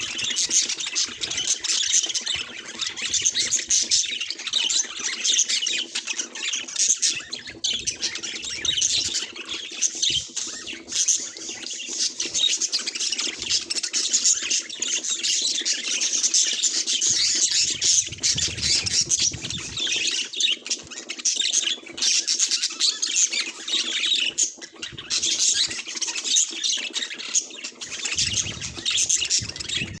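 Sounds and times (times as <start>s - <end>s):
budgerigars chattering and chirping: 0.0s - 30.0s.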